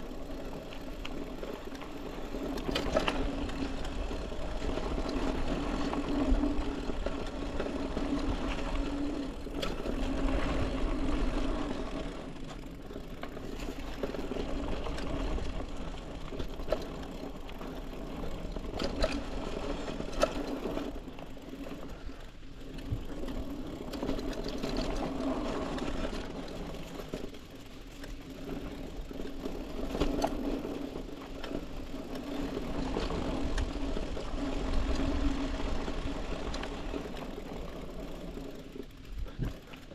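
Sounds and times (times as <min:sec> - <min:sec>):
bike clicks and knocks over bumps: 0:00.0 - 0:39.9
bike tyres whirring on dirt: 0:00.0 - 0:39.9.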